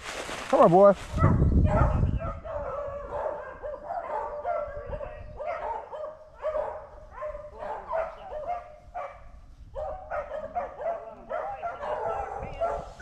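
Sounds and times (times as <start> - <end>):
dogs barking and yelping: 1.2 - 13.0.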